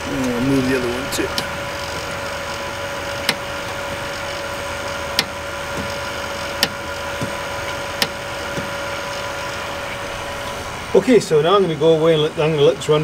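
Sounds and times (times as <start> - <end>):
vacuum pump humming: 0.0 - 13.0.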